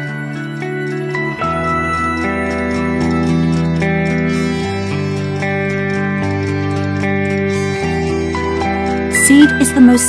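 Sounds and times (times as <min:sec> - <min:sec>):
sustained keyboard chords: 0:00.0 - 0:10.0.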